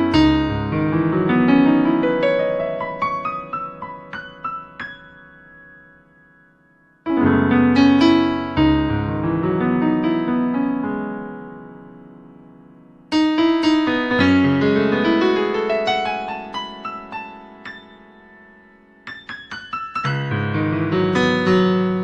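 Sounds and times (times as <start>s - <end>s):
keyboard piano chords: 0.0s - 22.0s.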